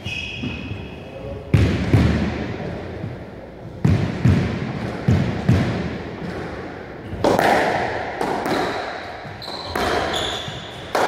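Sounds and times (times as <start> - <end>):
squash ball hits echoing: 0.0 - 11.0.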